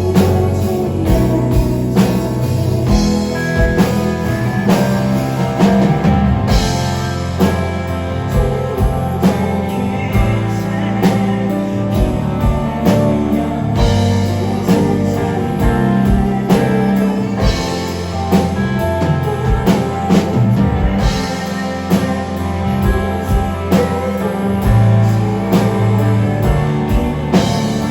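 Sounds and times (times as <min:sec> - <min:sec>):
drum kit beat: 0:00.0 - 0:27.9
electric guitar: 0:00.0 - 0:27.9.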